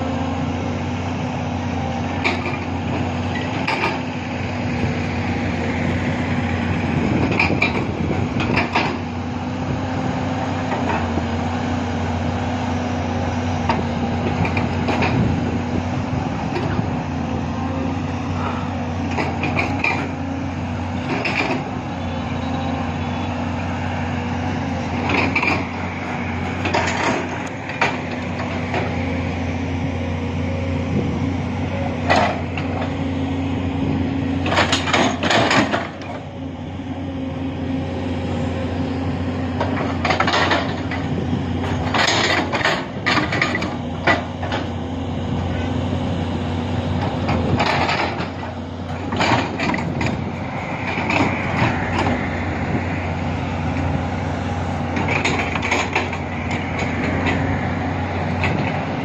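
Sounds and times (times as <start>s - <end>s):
excavator diesel engine running: 0.0s - 59.0s
hydraulics working: 0.0s - 59.0s.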